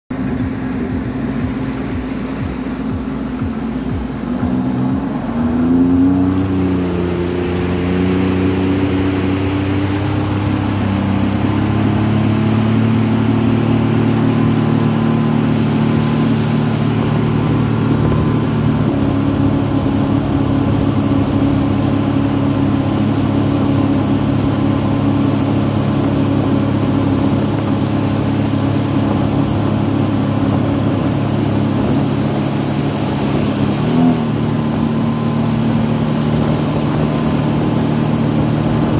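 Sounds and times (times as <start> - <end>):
personal watercraft engine: 0.1 - 38.9.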